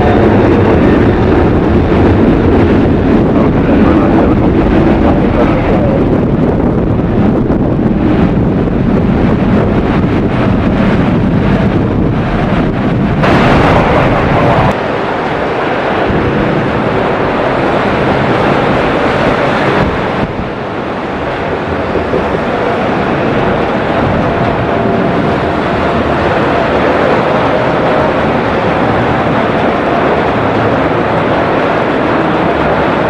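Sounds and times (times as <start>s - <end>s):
heavy rain: 0.0s - 33.0s
wind buffeting microphone: 0.0s - 33.0s.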